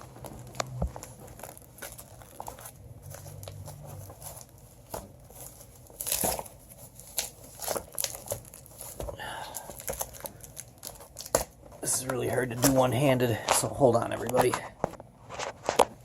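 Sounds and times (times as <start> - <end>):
packaging ripping: 0.0 - 12.9
packaging crinkling: 0.0 - 14.6.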